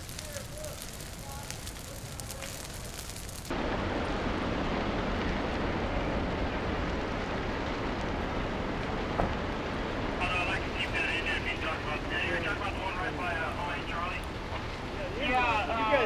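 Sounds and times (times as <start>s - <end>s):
burning brush crackling: 0.0s - 16.0s
wildfire rushing roar: 0.0s - 16.0s
wind: 0.0s - 16.0s.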